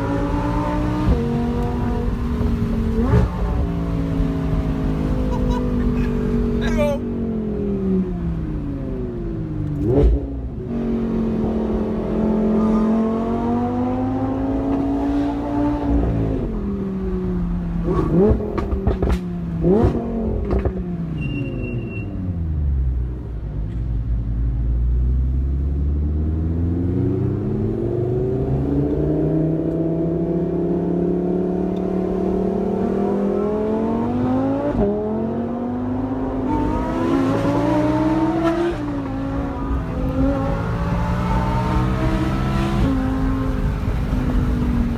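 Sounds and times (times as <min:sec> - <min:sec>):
car engine revving: 0:00.0 - 0:21.2, 0:25.0 - 0:44.9.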